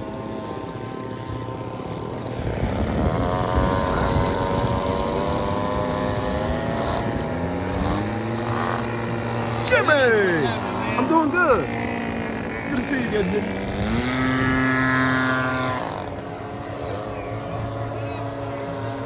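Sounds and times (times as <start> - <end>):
model airplane engines droning: 0.0 - 19.0.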